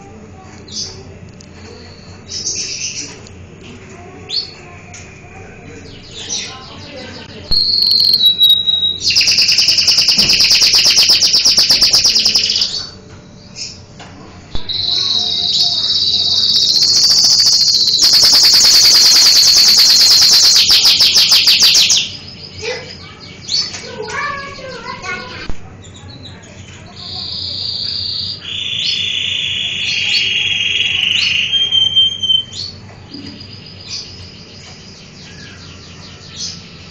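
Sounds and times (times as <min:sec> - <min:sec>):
canary singing: 0:01.7 - 0:03.2, 0:04.2 - 0:13.9, 0:14.5 - 0:36.9.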